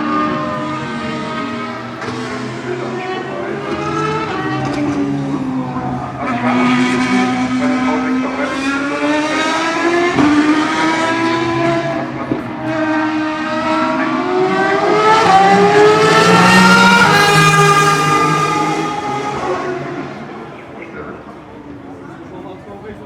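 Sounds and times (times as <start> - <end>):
race car engine at high revs: 0.0 - 22.3.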